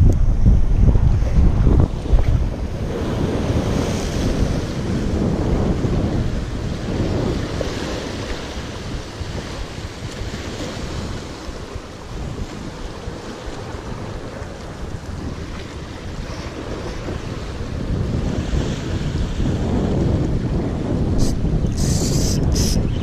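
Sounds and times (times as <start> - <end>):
wind buffeting microphone: 0.0 - 23.0
sea swell washing over rocks: 0.7 - 22.9.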